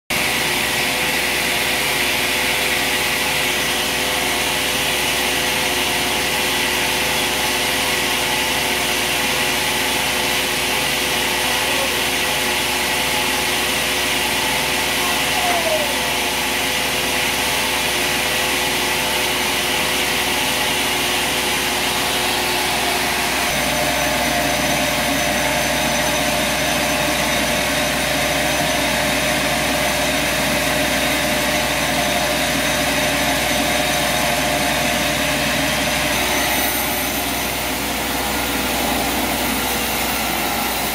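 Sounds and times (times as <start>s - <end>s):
band sawmill machinery humming: 0.1s - 40.9s.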